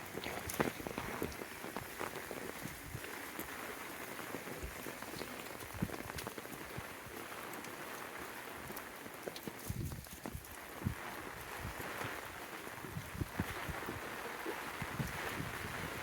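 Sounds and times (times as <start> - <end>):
raindrops ticking close by: 0.0 - 16.0
steady rain: 0.0 - 16.0.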